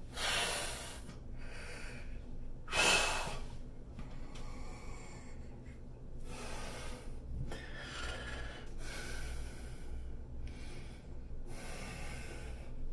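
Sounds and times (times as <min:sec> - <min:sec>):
man breathing heavily: 0:00.0 - 0:12.9.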